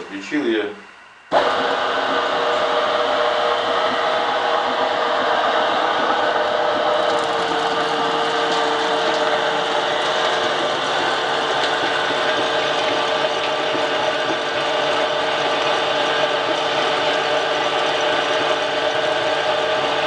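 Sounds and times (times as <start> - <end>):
pellet mill motor whine: 0.8 - 20.0.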